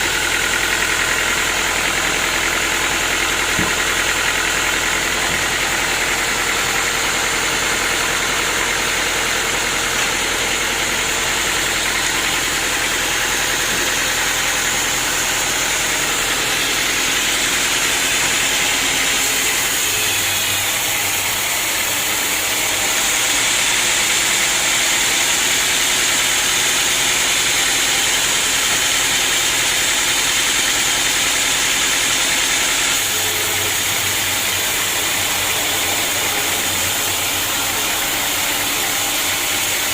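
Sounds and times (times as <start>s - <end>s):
saw cutting wood: 0.0s - 39.9s
sawmill machinery running: 0.0s - 39.9s.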